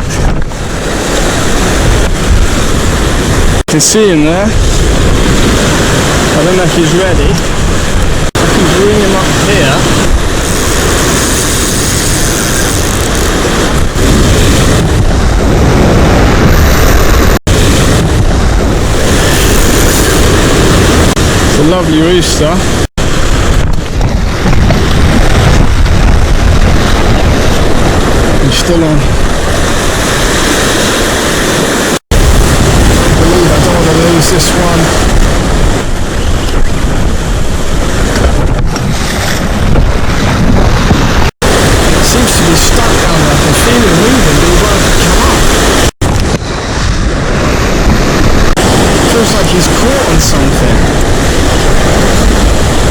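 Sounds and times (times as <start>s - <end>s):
surf washing on rocky shore: 0.0s - 52.9s
wind rumble on microphone: 0.0s - 52.9s.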